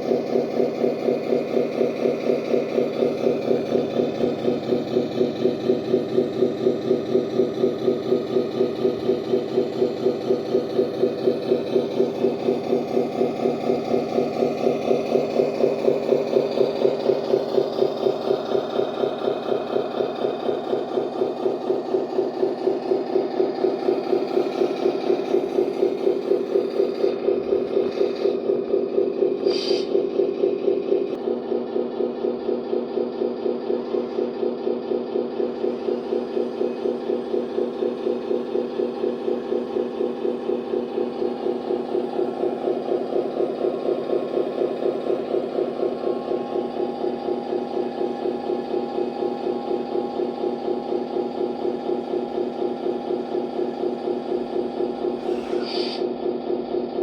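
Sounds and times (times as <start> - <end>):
simulated truck engine idling: 0.0 - 57.0.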